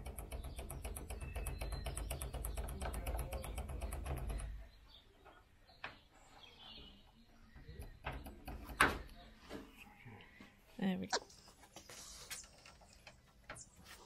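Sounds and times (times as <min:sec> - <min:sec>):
faint bird chirp: 0:00.1 - 0:14.0.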